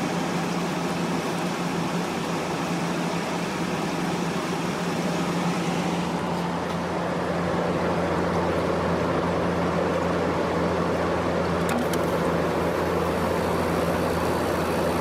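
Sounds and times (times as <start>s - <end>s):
air conditioner fan running: 0.0s - 15.0s.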